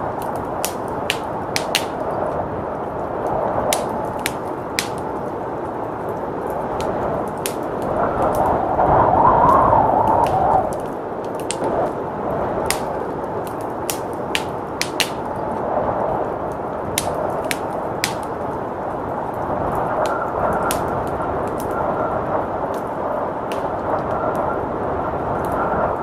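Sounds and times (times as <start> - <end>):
rushing blizzard wind: 0.0 - 26.0
wood fire crackling: 0.0 - 26.0.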